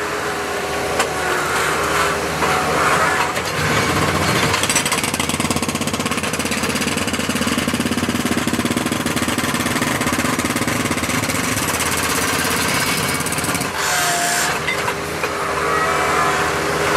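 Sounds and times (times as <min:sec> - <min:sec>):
engine running: 0:00.0 - 0:16.9
hydraulic hammer pounding concrete: 0:00.7 - 0:15.7.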